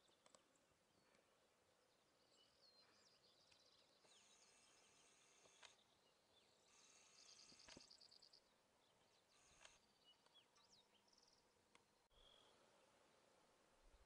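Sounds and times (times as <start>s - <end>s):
faint bird chirps: 0.0s - 13.3s.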